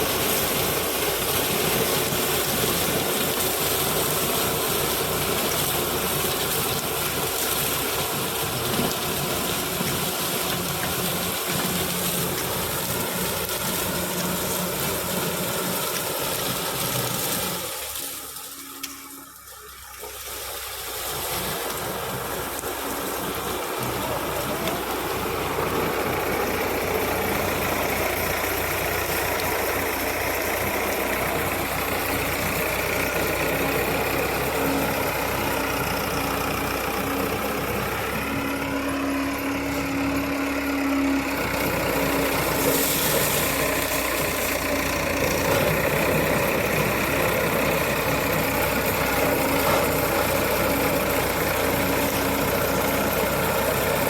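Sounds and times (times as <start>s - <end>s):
harvester engine running: 0.0s - 54.0s.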